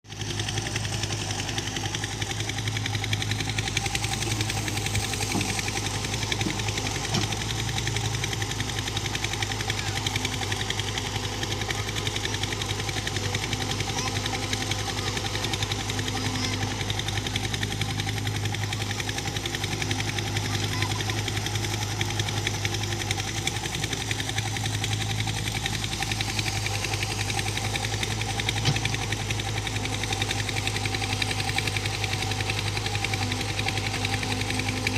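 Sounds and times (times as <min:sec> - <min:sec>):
diesel engine humming: 0:00.1 - 0:34.9.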